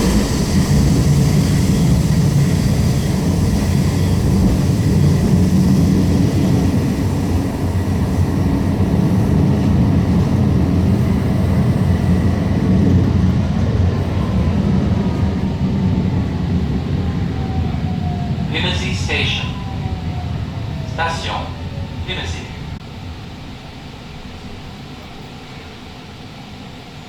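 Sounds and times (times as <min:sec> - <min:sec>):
tram running gear rumbling: 0:00.0 - 0:26.6.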